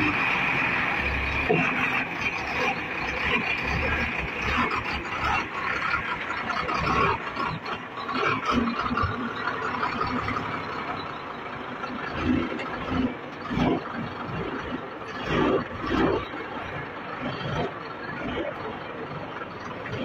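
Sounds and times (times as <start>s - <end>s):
truck diesel engine labouring: 0.0s - 20.0s.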